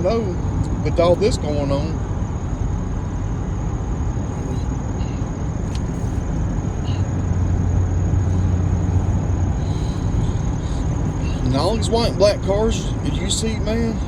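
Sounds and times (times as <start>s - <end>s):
car engine and road rumble: 0.0s - 14.0s
low drone: 2.0s - 14.0s.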